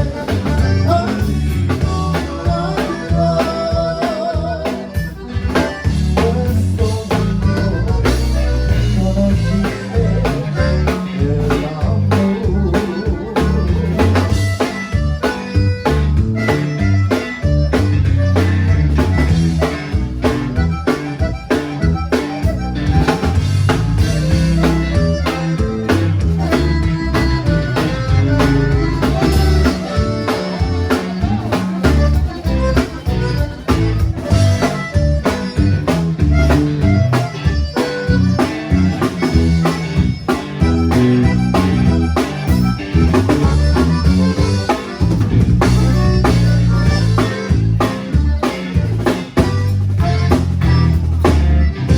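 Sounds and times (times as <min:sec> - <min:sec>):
bass: 0:00.0 - 0:51.9
button accordion melody: 0:00.0 - 0:51.9
drum kit dance beat: 0:00.0 - 0:51.9
strummed twelve-string guitar: 0:00.0 - 0:51.9.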